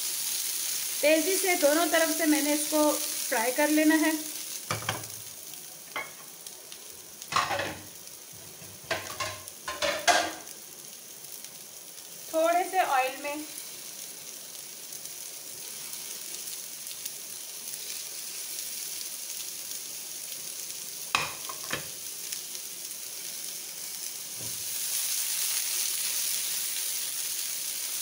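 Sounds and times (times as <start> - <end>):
kebabs sizzling in frying pan: 0.0 - 28.0.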